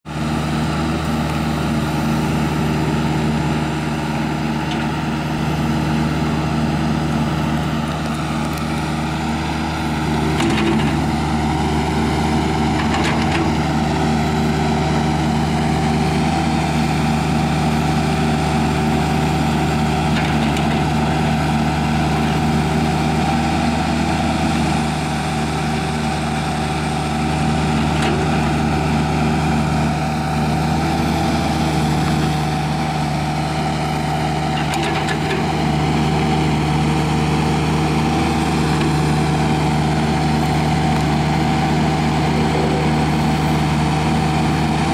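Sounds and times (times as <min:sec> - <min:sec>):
excavator diesel engine running: 0:00.1 - 0:44.9
hydraulic whine: 0:00.2 - 0:24.8, 0:27.1 - 0:44.9.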